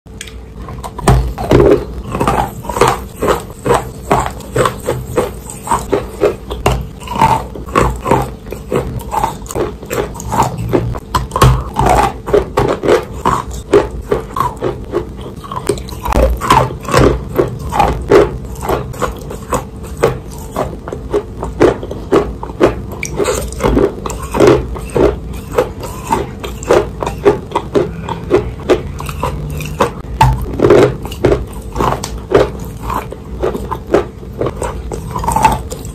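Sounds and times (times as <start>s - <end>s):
wet crunching chewing: 0.1s - 35.9s.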